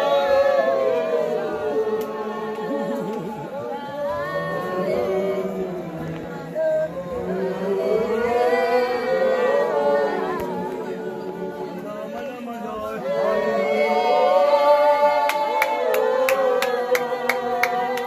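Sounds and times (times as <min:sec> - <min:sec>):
congregation singing unaccompanied: 0:00.0 - 0:18.0.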